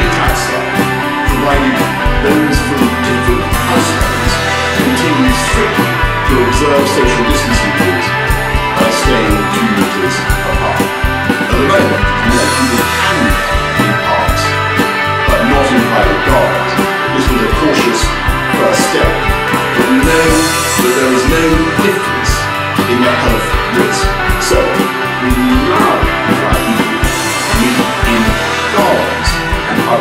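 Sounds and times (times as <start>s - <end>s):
rock band music: 0.0s - 30.0s.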